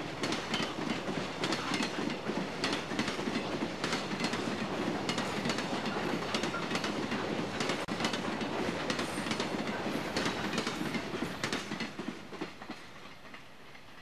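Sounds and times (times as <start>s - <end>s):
train rumble: 0.0s - 14.0s
train wheels clacking on track: 0.0s - 14.0s.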